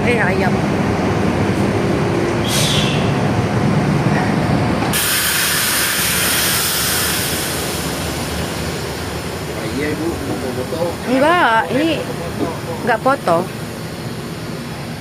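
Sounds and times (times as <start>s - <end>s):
diesel engines rumbling: 0.0s - 15.0s.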